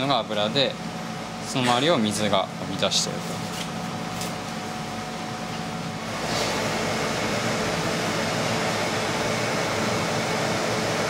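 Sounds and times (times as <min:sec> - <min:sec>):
fan hum and hiss: 0:00.0 - 0:11.0.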